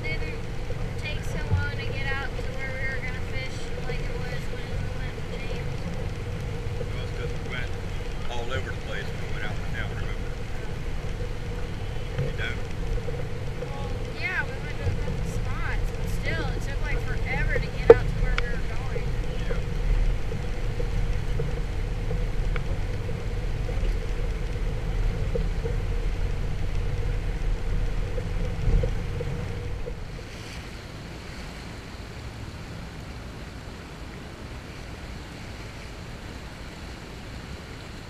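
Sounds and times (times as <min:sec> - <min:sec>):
motorboat engine hum: 0:00.0 - 0:38.0
rushing water: 0:00.0 - 0:38.0
wind rumble: 0:00.0 - 0:38.0.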